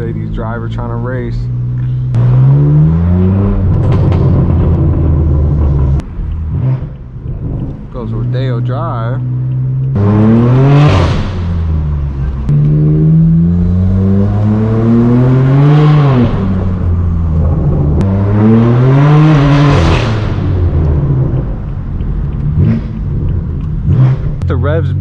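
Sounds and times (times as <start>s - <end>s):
car engine revving loudly: 0.4s - 7.0s, 8.0s - 25.0s.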